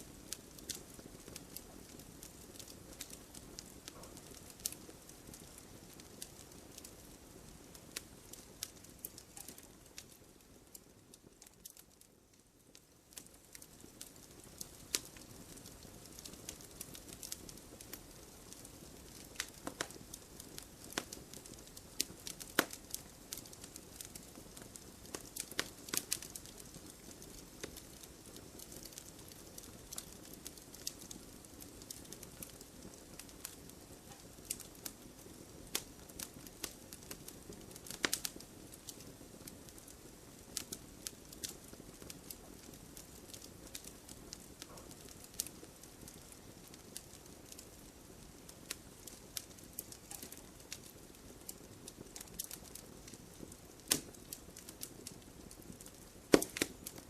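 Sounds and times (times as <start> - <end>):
soft steady fire hiss: 0.0 - 57.0
wood fire crackling and popping: 0.0 - 57.0.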